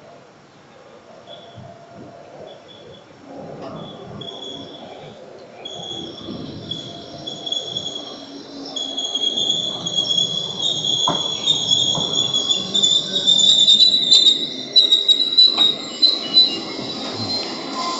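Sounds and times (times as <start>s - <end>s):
train squealing and rumbling: 1.3s - 17.9s.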